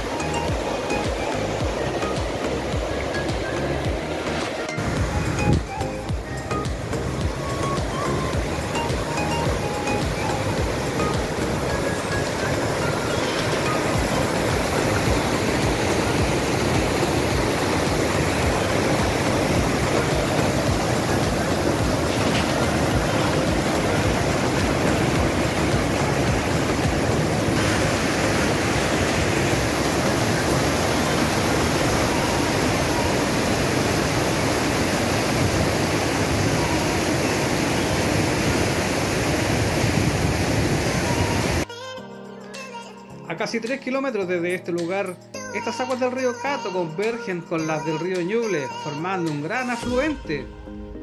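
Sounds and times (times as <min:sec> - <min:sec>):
river rapids rushing over rocks: 0:00.0 - 0:41.6.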